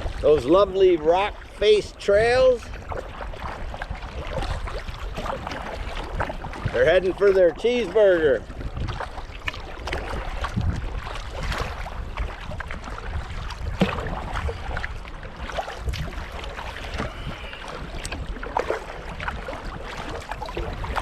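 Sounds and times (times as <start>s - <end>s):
paddle splashes and drips: 0.0s - 21.0s
wind rumble on microphone: 0.0s - 21.0s.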